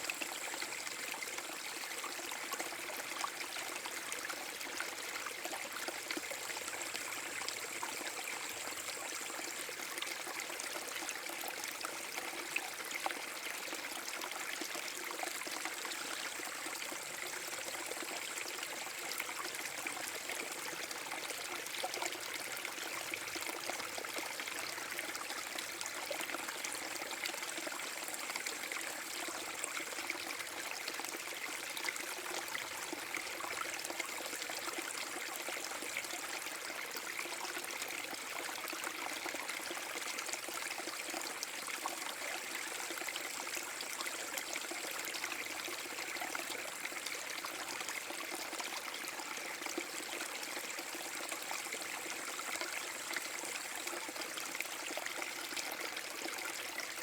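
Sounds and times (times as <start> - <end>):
brook water flowing and splashing: 0.0 - 57.0.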